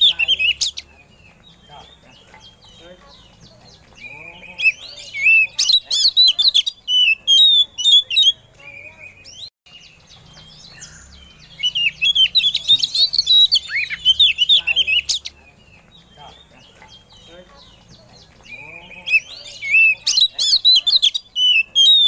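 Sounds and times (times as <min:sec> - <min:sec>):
magpie-robin singing: 0:00.0 - 0:22.0.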